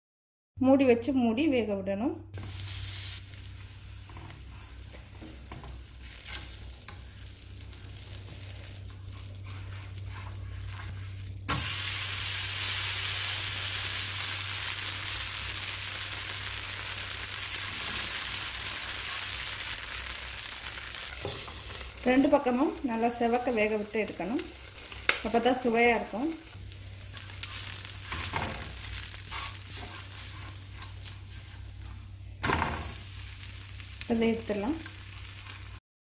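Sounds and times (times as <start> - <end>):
batter sizzling in oil: 2.4 - 35.8.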